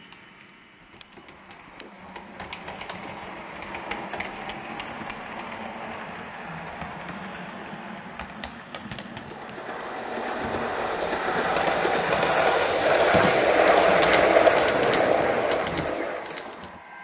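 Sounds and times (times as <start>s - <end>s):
model train wheels ticking: 0.1s - 16.8s.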